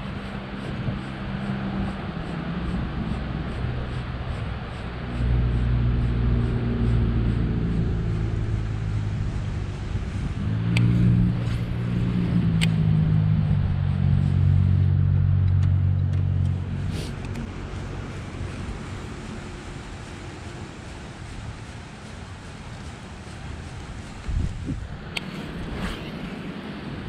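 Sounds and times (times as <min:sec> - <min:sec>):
motor humming: 0:00.0 - 0:22.9, 0:23.5 - 0:27.0.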